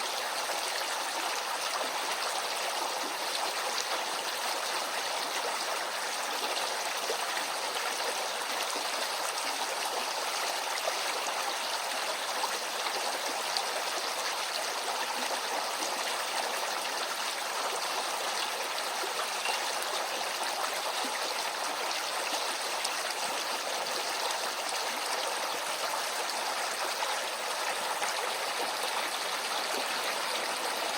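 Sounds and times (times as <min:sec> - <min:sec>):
stream babbling over stones: 0:00.0 - 0:30.9.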